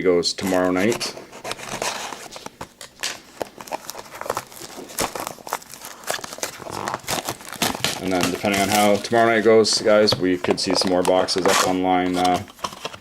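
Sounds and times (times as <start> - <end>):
packaging clicks and rustles: 0.4 - 13.0
shrink-wrap tearing and crinkling: 0.4 - 13.0.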